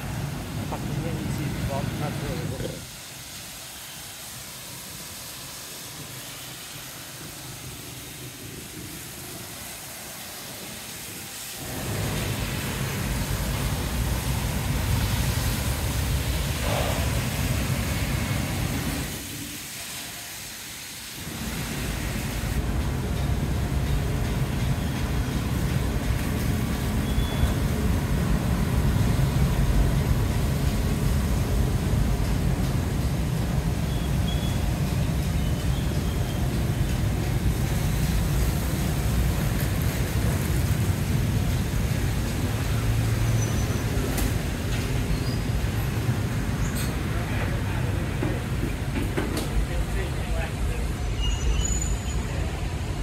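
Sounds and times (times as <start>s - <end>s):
wet street hiss: 0.0s - 53.0s.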